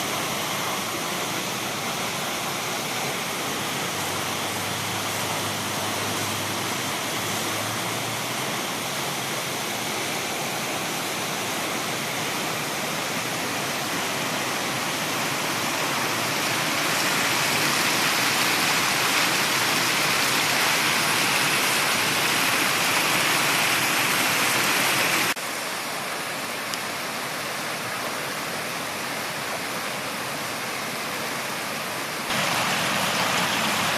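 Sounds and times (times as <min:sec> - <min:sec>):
river floodwater rushing: 0:00.0 - 0:33.9.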